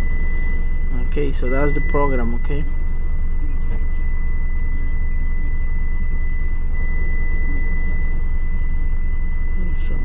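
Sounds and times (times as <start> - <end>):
faint high-pitched whine: 0.0 - 10.0.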